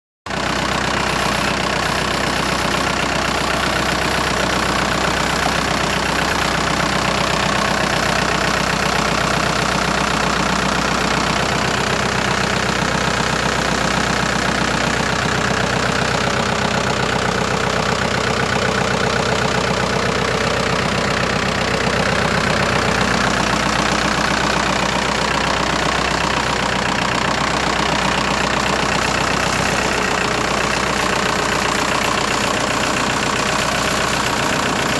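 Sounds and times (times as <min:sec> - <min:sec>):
tractor diesel engine idling: 0:00.3 - 0:34.9.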